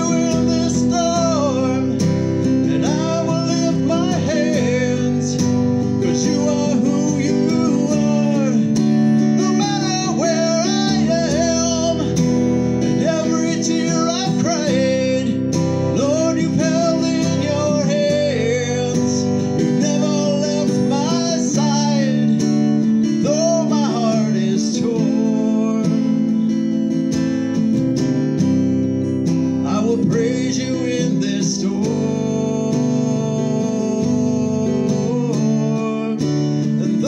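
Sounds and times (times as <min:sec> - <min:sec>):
man singing: 0:00.0 - 0:26.9, 0:29.6 - 0:37.0
acoustic guitar strumming: 0:00.0 - 0:37.0.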